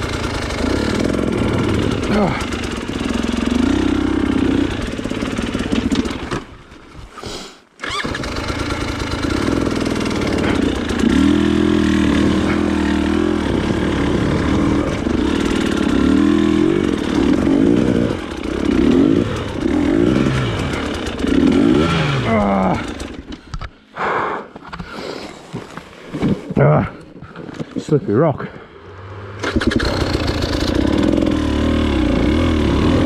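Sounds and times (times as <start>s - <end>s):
motorcycle engine revving: 0.0s - 6.7s, 7.8s - 23.4s, 28.8s - 33.0s.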